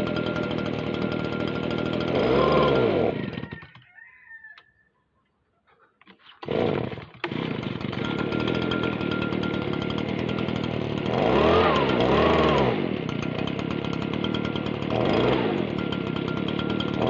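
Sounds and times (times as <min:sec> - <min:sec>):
leaf blower engine revving: 0:00.0 - 0:03.8, 0:06.1 - 0:17.0.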